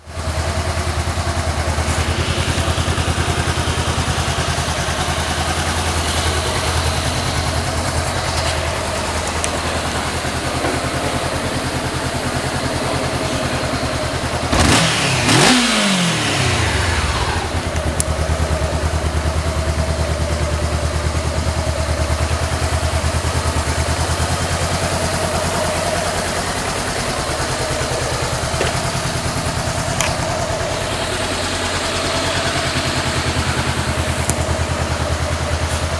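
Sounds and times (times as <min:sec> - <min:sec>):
motorcycle engine idling: 0:00.0 - 0:35.9
motorcycle revving: 0:00.0 - 0:35.9.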